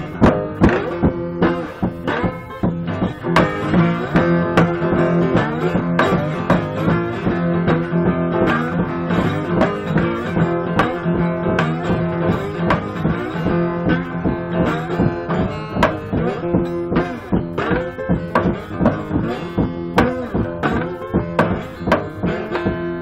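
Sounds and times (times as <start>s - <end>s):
slide blues acoustic guitar: 0.0s - 23.0s.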